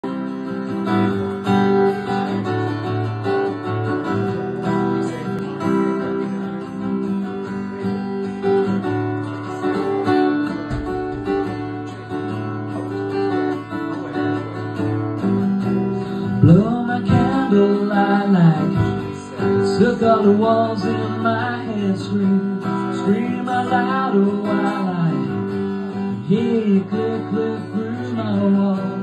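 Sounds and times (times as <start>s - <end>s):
acoustic guitar strummed: 0.0s - 29.0s.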